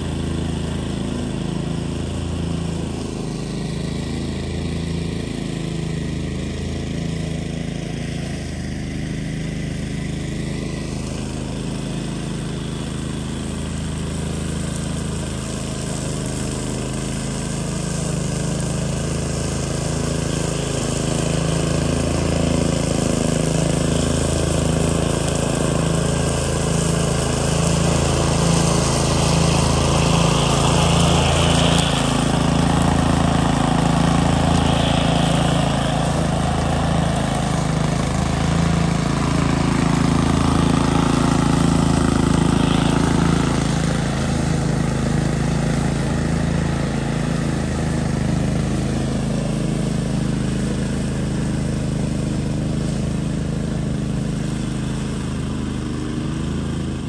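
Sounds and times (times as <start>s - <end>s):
mower engine running: 0.0s - 57.0s.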